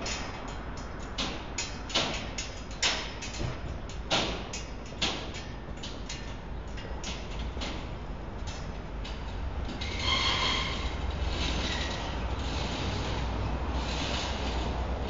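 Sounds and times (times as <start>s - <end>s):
metallic clicks of steel structure: 0.0s - 15.0s.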